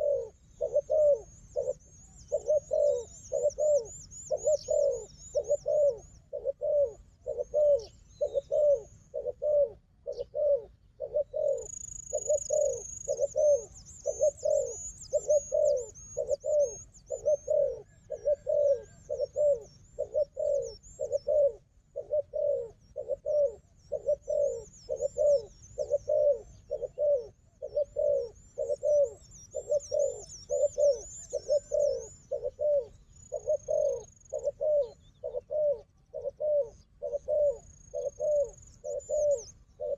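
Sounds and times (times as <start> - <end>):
dove cooing: 0.0 - 39.9
small bird twittering: 0.0 - 39.9.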